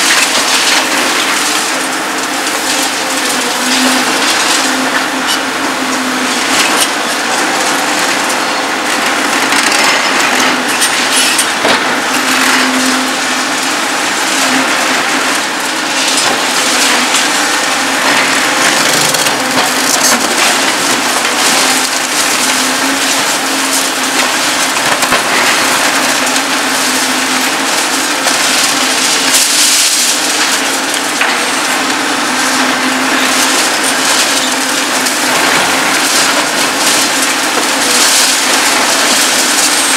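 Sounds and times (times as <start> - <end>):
concrete cracking and crunching: 0.0 - 39.9
excavator engine hum: 0.0 - 39.9.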